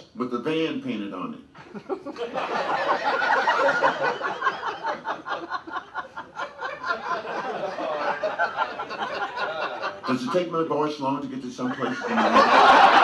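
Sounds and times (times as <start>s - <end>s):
audience laughing: 1.6s - 10.7s, 11.6s - 13.0s.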